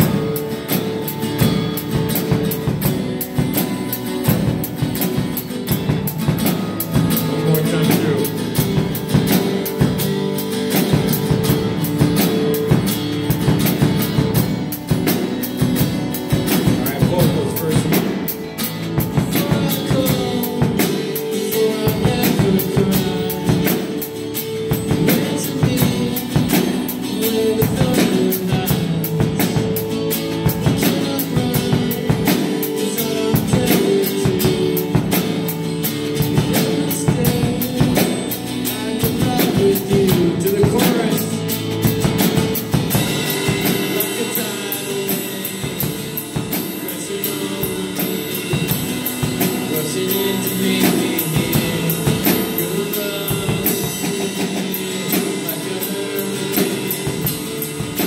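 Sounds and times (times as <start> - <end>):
acoustic guitar strumming: 0.0 - 58.0
drum kit beat: 0.0 - 58.0
keyboard chords: 0.0 - 58.0.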